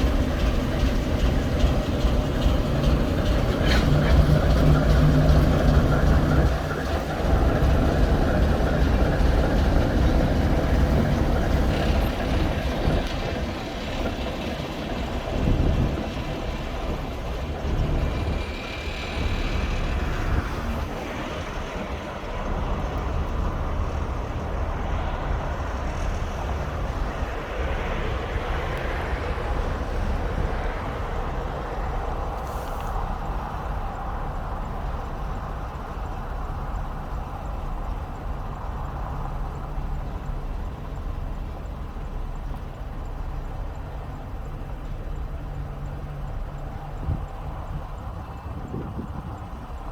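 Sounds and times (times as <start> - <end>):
diesel locomotive rumbling: 0.0 - 49.9.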